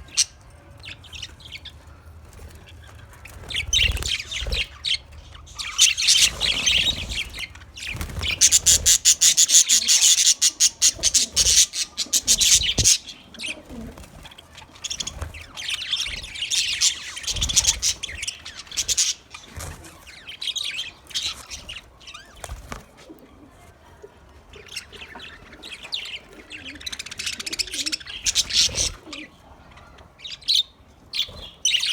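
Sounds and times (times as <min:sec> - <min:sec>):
budgerigars chirping and chattering: 0:00.0 - 0:22.8, 0:24.5 - 0:31.9.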